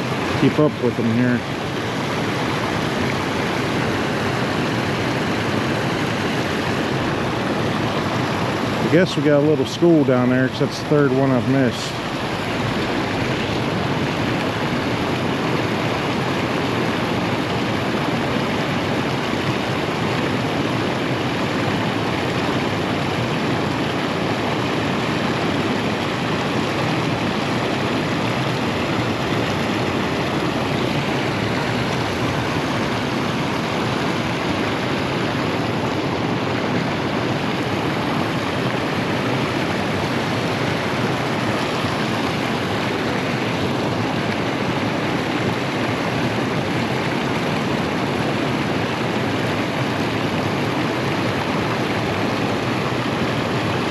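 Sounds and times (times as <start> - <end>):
flowing water rushing: 0.0 - 53.9.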